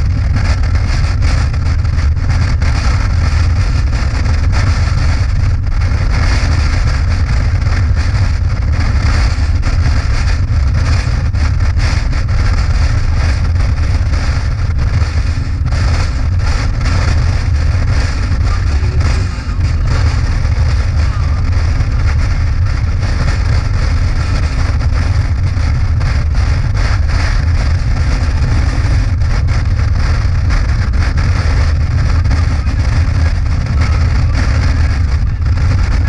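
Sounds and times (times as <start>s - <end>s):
motorcycle engine drone: 0.0s - 36.0s
wind rushing over microphone: 0.0s - 36.0s.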